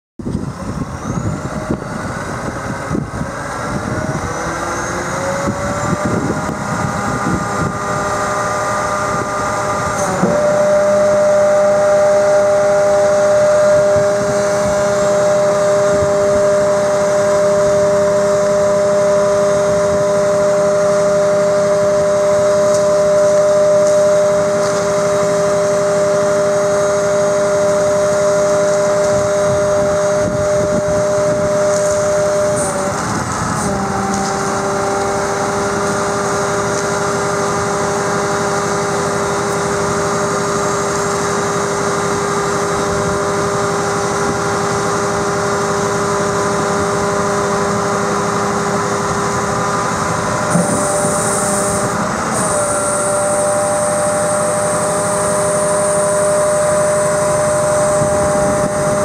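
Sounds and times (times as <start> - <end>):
truck engine running at high revs: 0.2 - 59.0.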